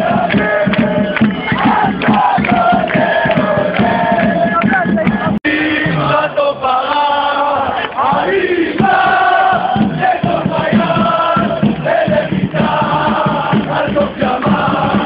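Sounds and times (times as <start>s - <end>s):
crowd din: 0.0s - 15.0s
crowd singing a chant: 0.0s - 15.0s.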